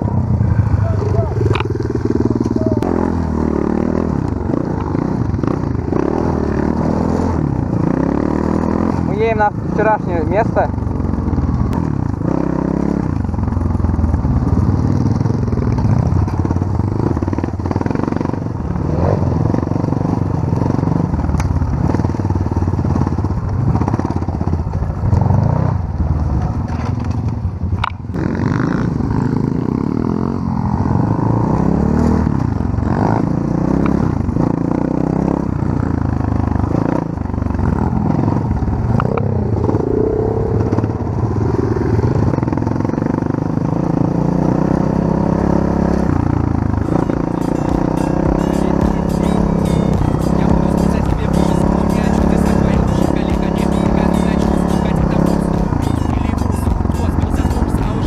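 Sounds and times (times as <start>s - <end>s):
pit bike engine revving: 0.0s - 26.3s, 28.1s - 58.0s.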